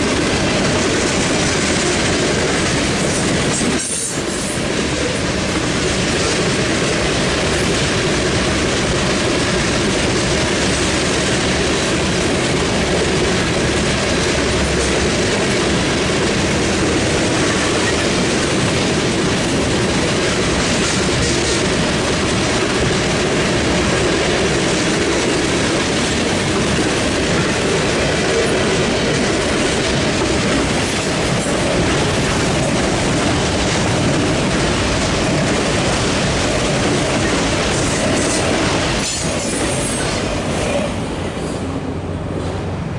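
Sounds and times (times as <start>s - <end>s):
wheels clattering over rail joints: 0.0s - 40.8s
steel wheels rumbling on rail: 0.0s - 42.9s.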